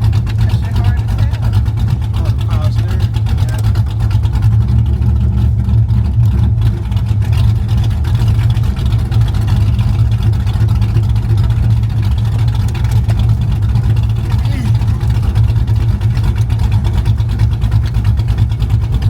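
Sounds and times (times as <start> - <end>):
engine running low rumble: 0.0 - 19.0.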